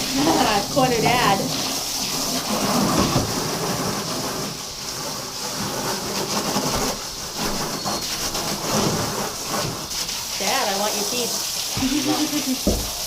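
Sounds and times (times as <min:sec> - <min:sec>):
water running from a hose: 0:00.0 - 0:13.0.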